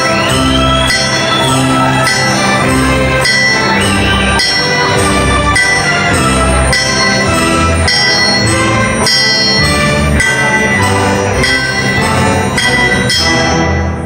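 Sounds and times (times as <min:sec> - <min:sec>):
anvil strikes ringing: 0:00.0 - 0:14.0
symphony orchestra playing: 0:00.0 - 0:14.0.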